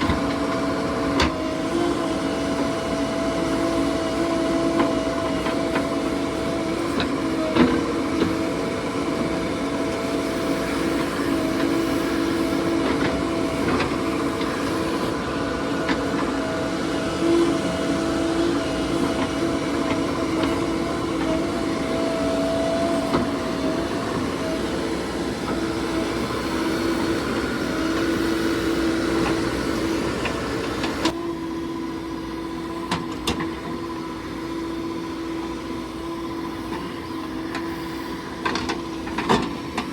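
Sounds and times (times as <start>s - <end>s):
heavy machinery engine droning: 0.0s - 39.9s.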